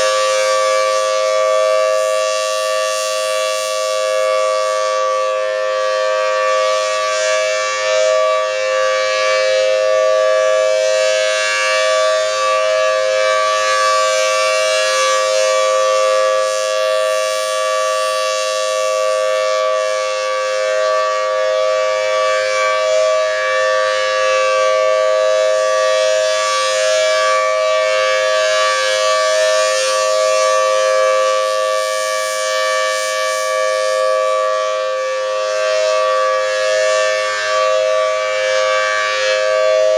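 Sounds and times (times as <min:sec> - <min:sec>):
civil defense siren two-note tone: 0:00.0 - 0:39.9.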